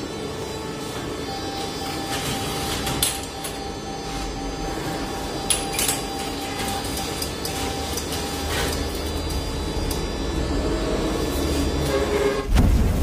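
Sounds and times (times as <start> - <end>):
receipt printing: 0.0 - 12.4
machine hum: 0.0 - 13.0.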